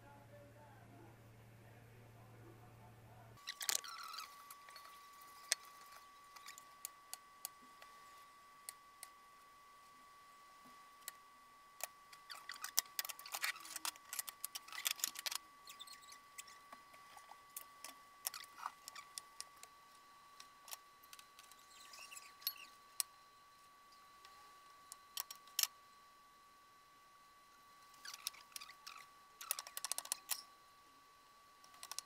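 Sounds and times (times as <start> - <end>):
faint steady high tone: 3.4 - 13.8, 14.7 - 31.7.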